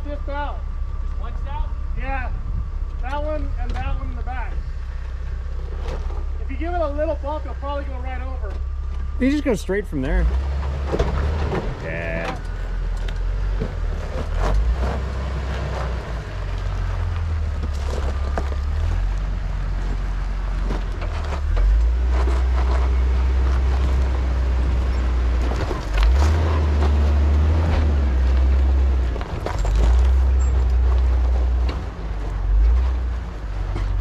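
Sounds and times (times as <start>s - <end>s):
off-road vehicle crawling over rocks: 0.0s - 34.0s.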